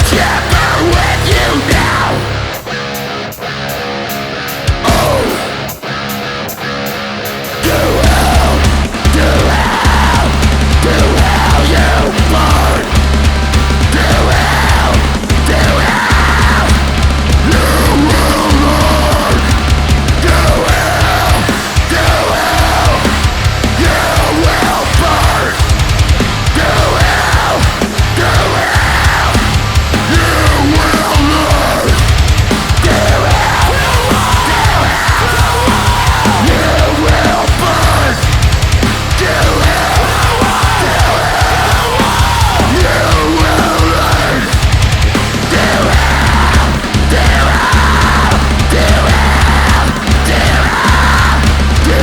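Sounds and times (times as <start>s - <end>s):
heavy metal band playing live: 0.0s - 52.0s.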